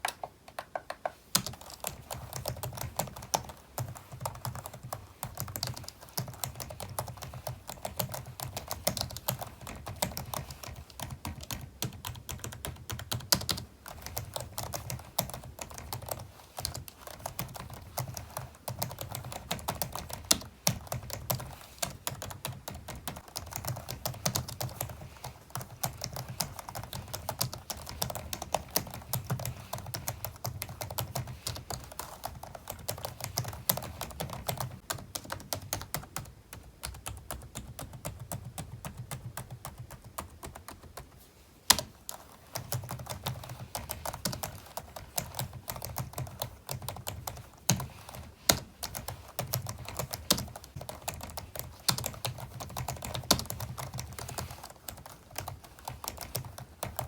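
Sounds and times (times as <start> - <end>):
fast keyboard typing: 0.0 - 41.1, 41.7 - 57.0.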